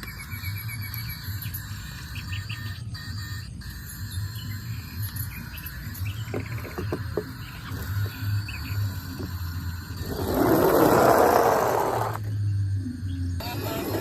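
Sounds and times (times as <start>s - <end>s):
birds chirping: 0.0s - 14.0s
insect trilling: 0.0s - 14.0s.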